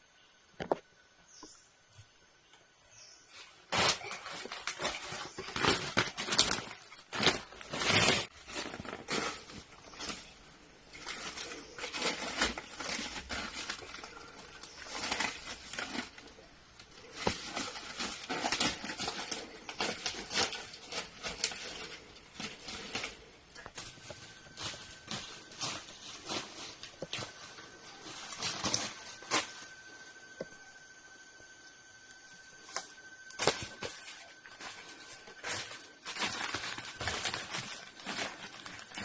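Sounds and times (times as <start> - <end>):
rustling and crunching dry material: 2.9 - 31.2, 31.8 - 39.0.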